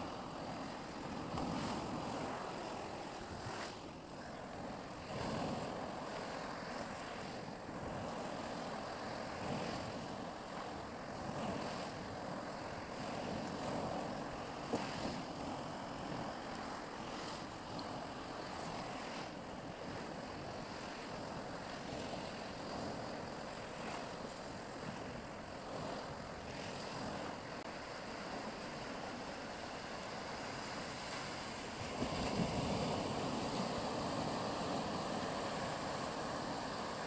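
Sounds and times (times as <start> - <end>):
sea surf: 0.0 - 37.0
wind: 0.0 - 37.0.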